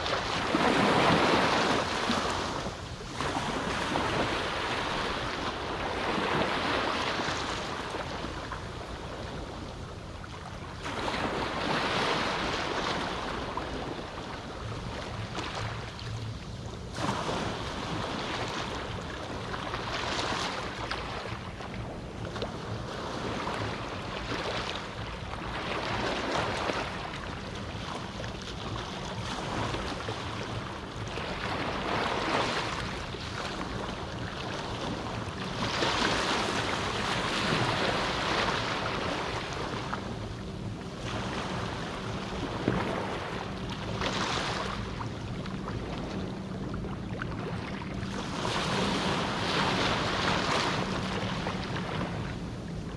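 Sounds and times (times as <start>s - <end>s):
small waves washing on beach: 0.0s - 52.9s.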